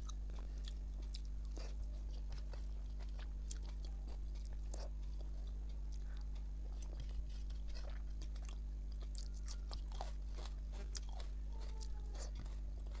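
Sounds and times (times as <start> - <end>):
close-up chewing: 0.0 - 13.0
steady low hum: 0.0 - 13.0
fingers on paper plate: 0.4 - 13.0.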